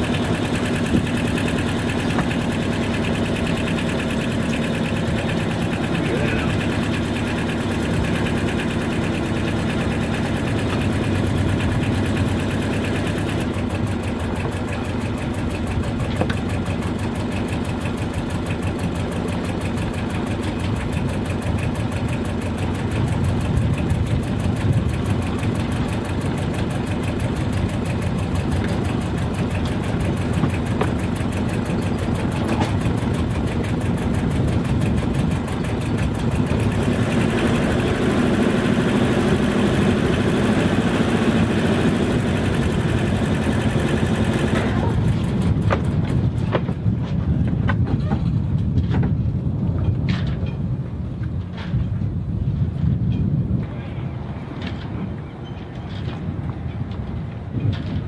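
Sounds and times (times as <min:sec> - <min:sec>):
boat engine throbbing: 0:00.0 - 0:58.0.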